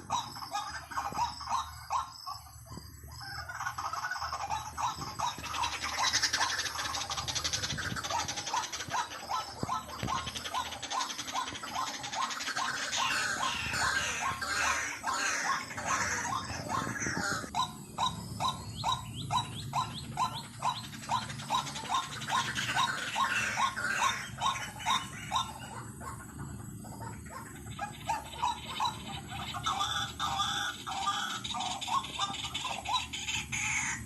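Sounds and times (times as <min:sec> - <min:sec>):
high bird chatter: 0:00.0 - 0:34.0
waterhen kwak calls: 0:03.2 - 0:34.0.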